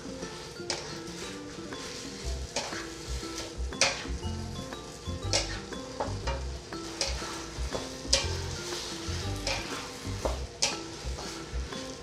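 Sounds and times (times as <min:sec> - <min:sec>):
wooden spatula scraping: 0:00.0 - 0:04.2, 0:05.3 - 0:12.0
food sizzling in a wok: 0:00.0 - 0:12.0.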